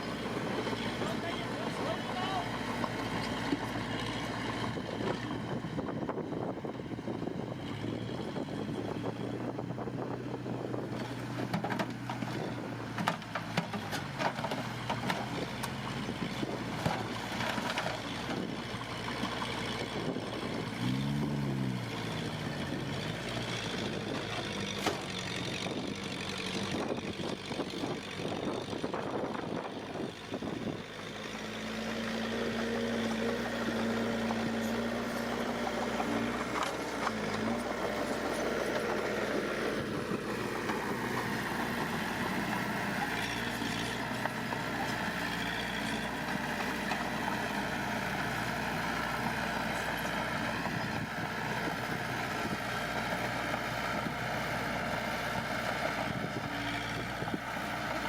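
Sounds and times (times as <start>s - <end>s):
diesel earthmoving machinery running: 0.0s - 58.0s.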